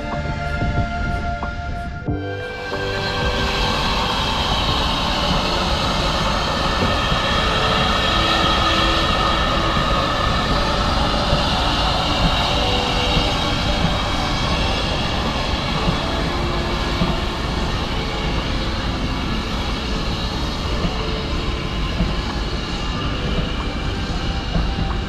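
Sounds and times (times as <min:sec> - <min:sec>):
steam locomotive rumble and hiss: 0:00.0 - 0:25.0.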